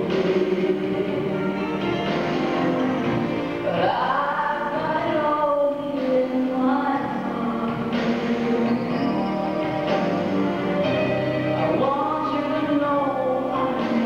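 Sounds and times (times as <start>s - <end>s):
person singing: 0.0s - 2.7s, 3.6s - 14.0s
instrumental backing: 0.0s - 14.0s.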